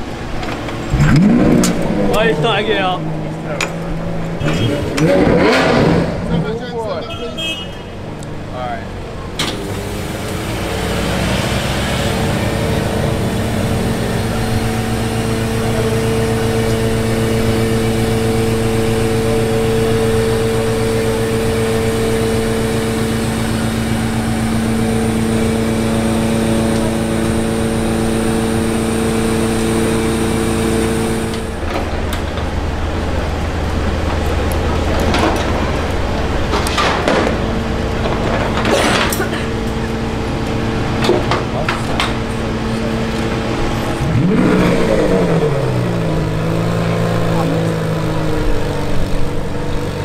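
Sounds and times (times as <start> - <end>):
engine humming steadily: 0.0 - 50.0.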